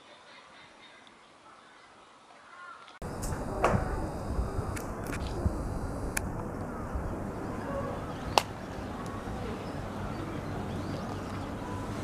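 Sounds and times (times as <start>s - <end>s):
faint distant sounds: 0.0s - 12.0s.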